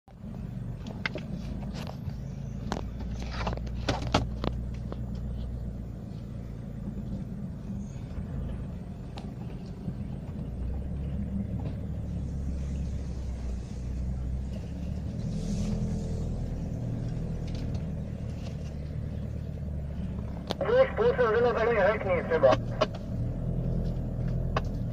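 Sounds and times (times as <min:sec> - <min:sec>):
vehicle engine rumble: 0:00.0 - 0:24.9.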